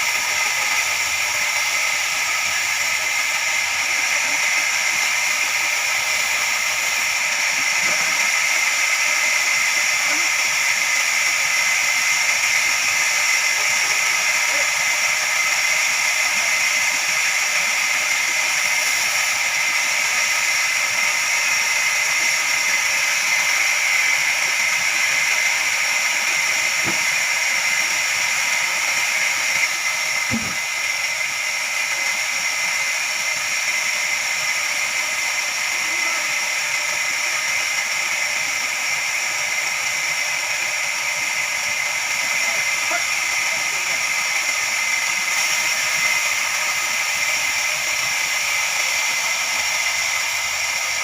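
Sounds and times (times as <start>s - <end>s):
band saw blade whining: 0.0s - 51.0s.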